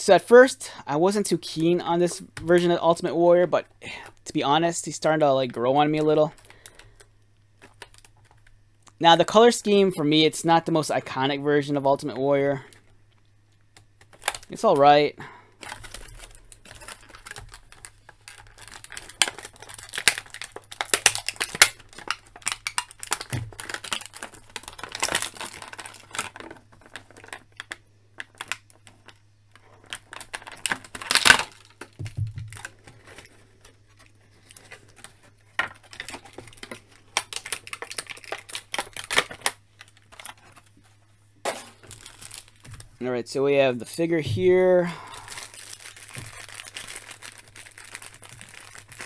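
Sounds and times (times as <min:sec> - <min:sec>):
plastic packaging crinkling: 0:01.1 - 0:43.0, 0:44.2 - 0:49.0.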